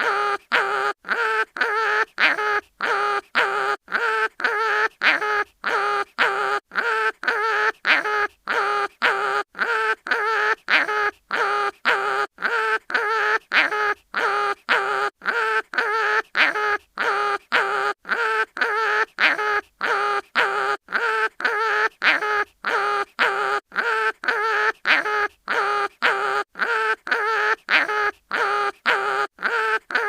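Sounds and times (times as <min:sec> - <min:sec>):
cartoon animal crying: 0:00.0 - 0:30.0.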